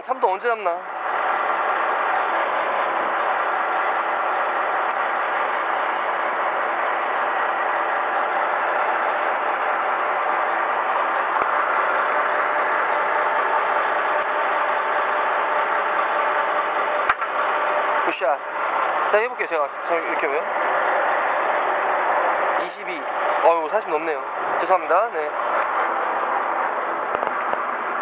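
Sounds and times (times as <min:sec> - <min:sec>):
boat engine idling: 0:00.0 - 0:28.0.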